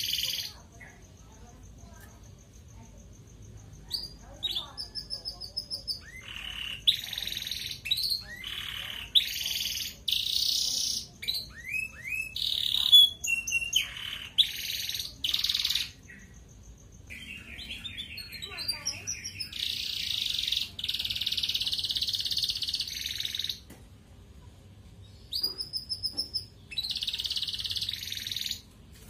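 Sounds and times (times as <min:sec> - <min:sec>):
canary singing: 0:00.0 - 0:23.7, 0:24.8 - 0:28.7.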